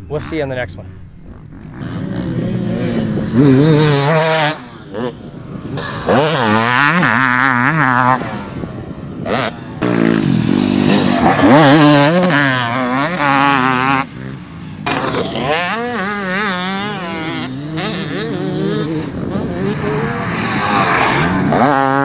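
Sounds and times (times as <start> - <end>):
two-stroke motocross engine revving: 1.2 - 8.6, 9.2 - 22.0.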